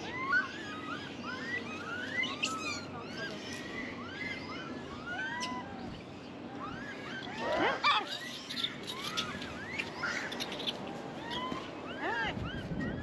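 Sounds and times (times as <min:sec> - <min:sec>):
monkeys calling: 0:00.0 - 0:13.0.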